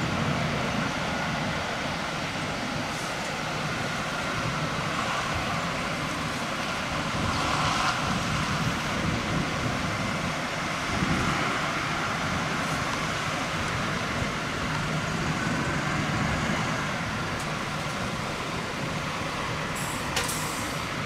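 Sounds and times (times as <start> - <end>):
diesel coach engine running: 0.0 - 21.0
street traffic noise: 0.0 - 21.0.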